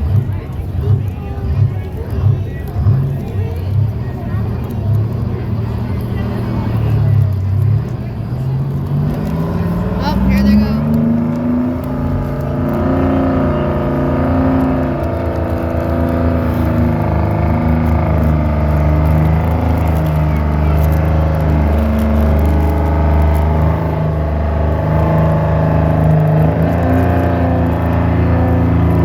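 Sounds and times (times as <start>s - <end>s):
vehicle engine running hard under load: 0.0s - 29.0s.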